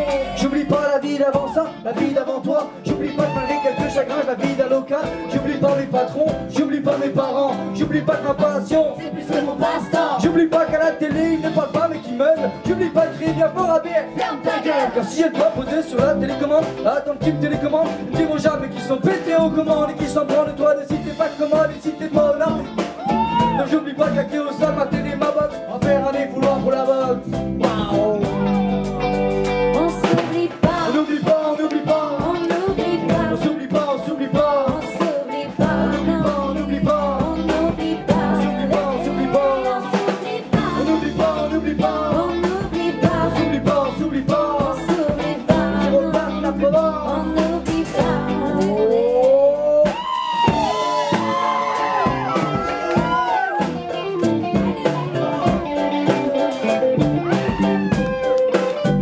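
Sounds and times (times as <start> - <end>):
lead line with sliding notes: 0.0 - 49.9, 50.5 - 59.0
live rock band playing: 0.0 - 59.0
person singing: 0.0 - 59.0.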